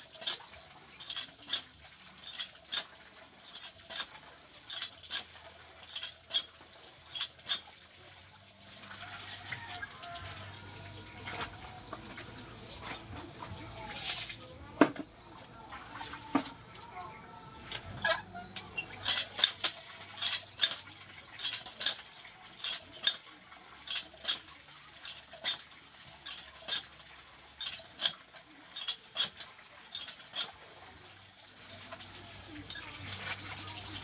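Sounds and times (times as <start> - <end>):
pump handle metal clanks: 0.0 - 8.1, 8.7 - 14.1, 17.6 - 34.0
water pouring into basin: 0.0 - 14.7, 18.8 - 34.0.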